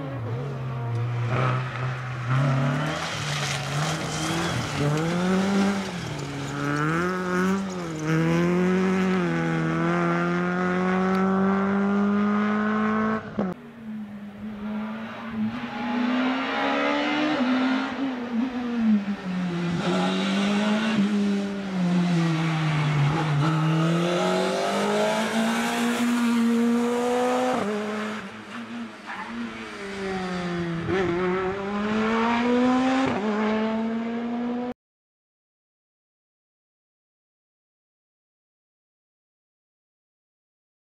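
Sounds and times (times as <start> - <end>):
rally car engine revving: 0.0 - 13.6, 14.3 - 34.7.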